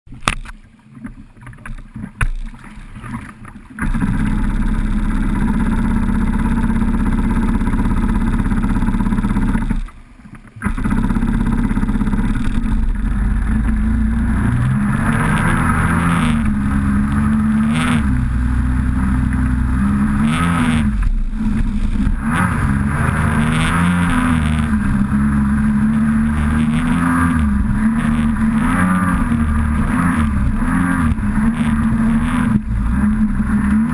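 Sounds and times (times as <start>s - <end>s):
jet ski engine revving: 3.1s - 33.9s.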